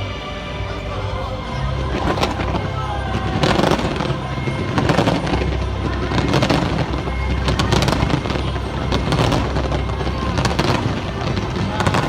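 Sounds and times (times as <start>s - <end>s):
fireworks bangs and crackles: 0.0s - 12.0s
loud soundtrack music: 0.0s - 12.0s.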